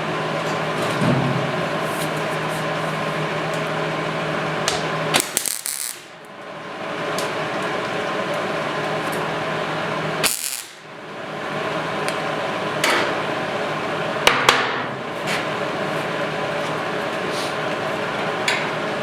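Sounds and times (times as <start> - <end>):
workshop hum: 0.0 - 19.0.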